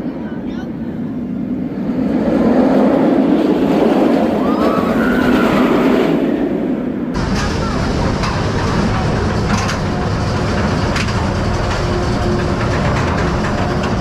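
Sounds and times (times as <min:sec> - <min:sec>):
roller coaster rumbling on track: 0:00.0 - 0:14.0
roller coaster clattering: 0:01.2 - 0:14.0.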